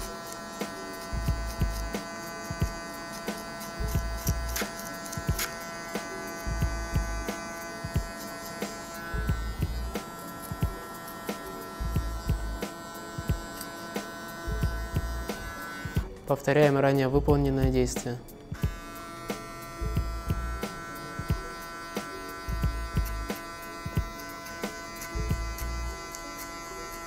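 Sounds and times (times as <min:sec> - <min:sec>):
hair clipper buzzing: 0:00.0 - 0:16.3, 0:18.5 - 0:27.0
background music with steady beat: 0:00.0 - 0:27.0.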